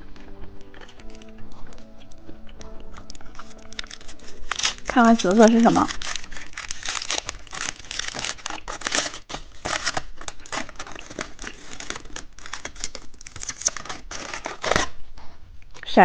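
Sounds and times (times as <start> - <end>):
plastic wrapper crinkling and tearing: 0.0 - 15.2.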